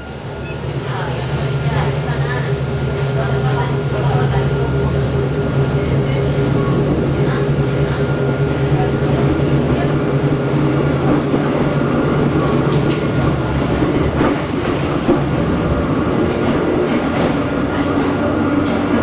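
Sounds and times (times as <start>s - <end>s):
train motors humming: 0.0s - 19.0s.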